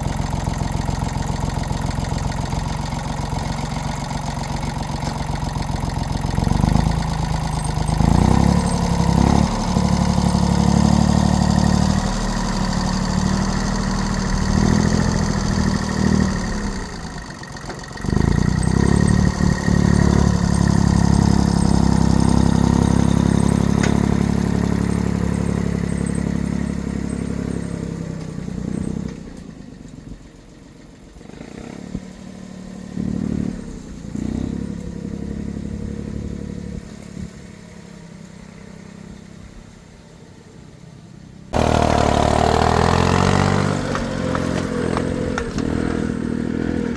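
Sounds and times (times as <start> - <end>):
excavator engine revving: 0.0 - 29.7, 31.1 - 39.3, 41.5 - 46.9.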